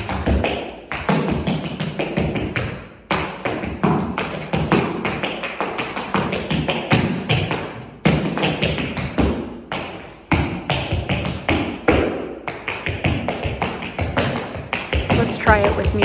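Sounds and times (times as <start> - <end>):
tap shoes striking floor: 0.0 - 16.0.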